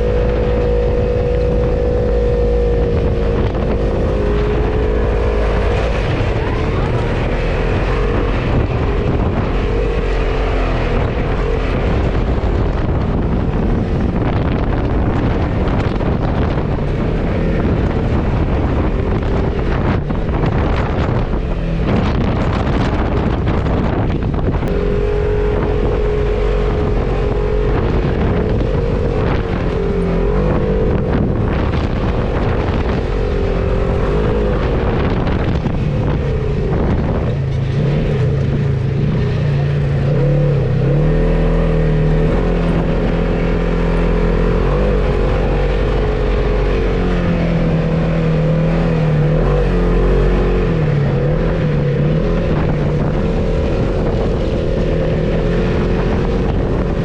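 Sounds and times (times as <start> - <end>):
off-road vehicle engine revving: 0.0 - 57.0
wind buffeting microphone: 0.0 - 57.0.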